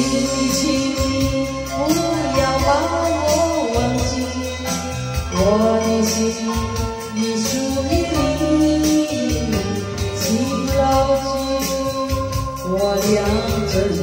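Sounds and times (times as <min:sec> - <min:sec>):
backing track with bass and beat: 0:00.0 - 0:14.0
person singing: 0:00.0 - 0:14.0.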